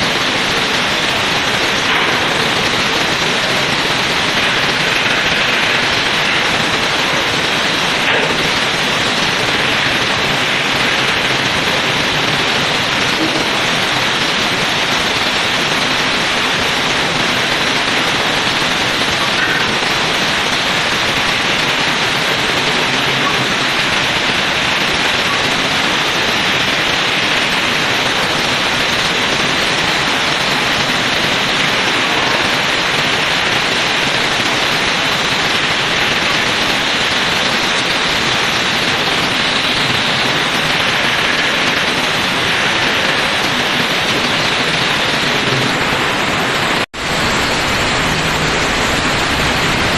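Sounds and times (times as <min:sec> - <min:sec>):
arc welding crackle and hiss: 0:00.0 - 0:49.9.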